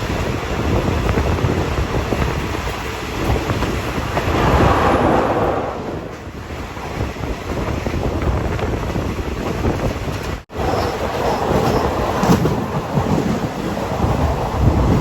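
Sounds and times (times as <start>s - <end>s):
train rumbling on track: 0.0s - 15.0s
wind noise on microphone: 0.0s - 15.0s.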